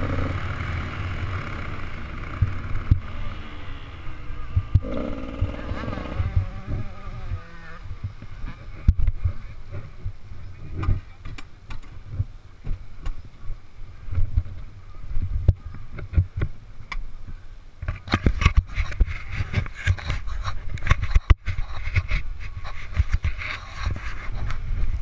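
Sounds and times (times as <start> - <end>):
wind buffeting on microphone: 1.5 - 25.0.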